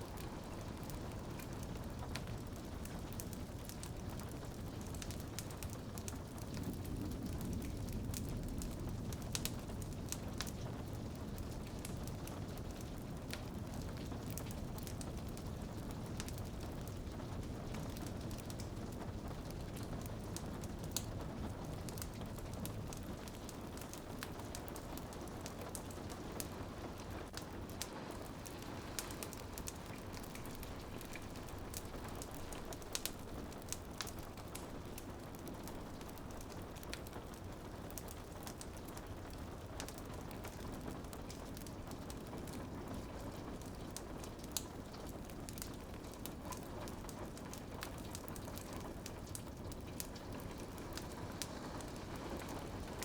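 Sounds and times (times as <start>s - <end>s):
rain pattering on a window: 0.0s - 53.0s
wood fire crackling: 0.0s - 53.0s.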